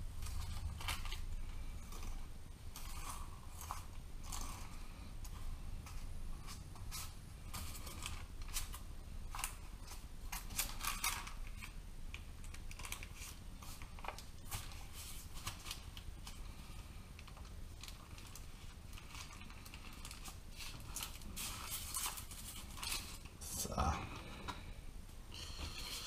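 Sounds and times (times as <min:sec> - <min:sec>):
baking paper crinkling: 0:00.0 - 0:24.7
low steady hum: 0:00.0 - 0:26.0.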